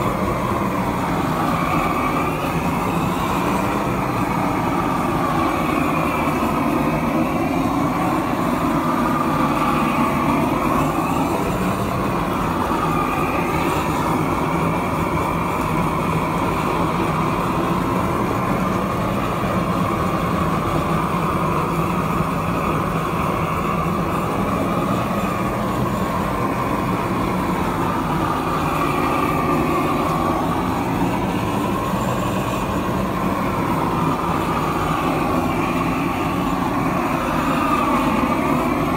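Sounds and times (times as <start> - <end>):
propane torch flame roaring: 0.0 - 38.9.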